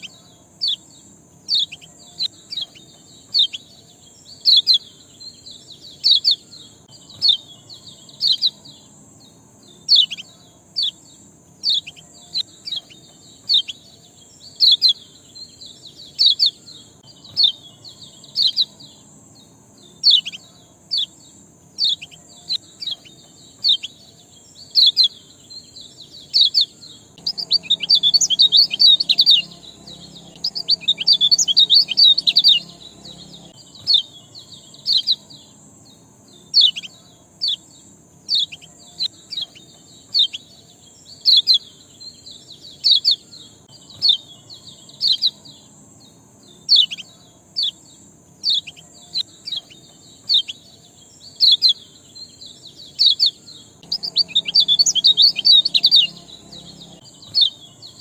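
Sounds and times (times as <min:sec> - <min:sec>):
small songbird chirping: 0:00.0 - 0:58.0.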